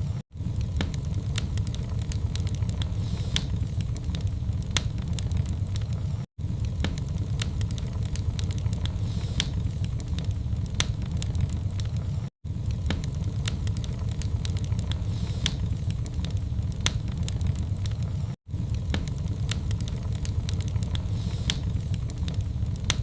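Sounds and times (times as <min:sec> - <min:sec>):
low rumble of flames: 0:00.0 - 0:23.0
wood fire crackling: 0:00.0 - 0:23.0
sharp pops and snaps: 0:00.4 - 0:23.0.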